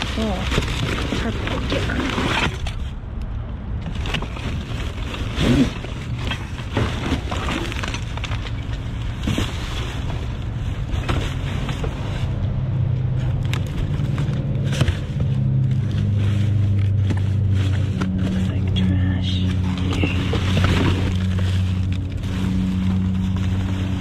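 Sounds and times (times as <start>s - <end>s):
hands rummaging through trash: 0.0s - 3.2s, 3.8s - 24.0s
vehicle engine running: 0.0s - 24.0s.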